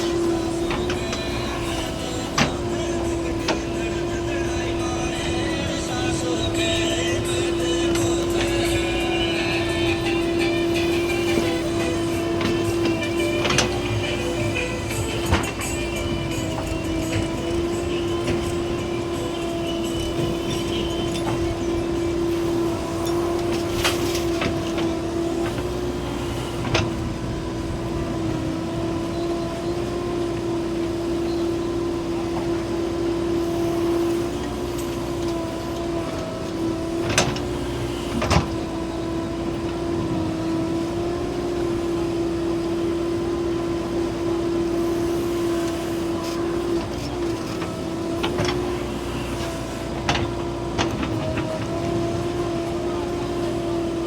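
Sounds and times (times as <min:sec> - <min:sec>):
diesel machinery droning: 0:00.0 - 0:54.0.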